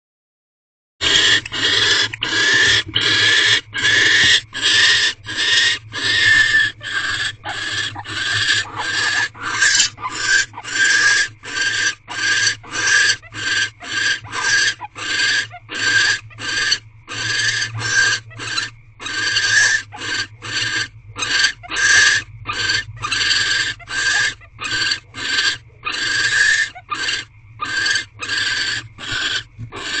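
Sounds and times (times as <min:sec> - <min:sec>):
owls harsh raspy calls: 0:01.0 - 0:30.0.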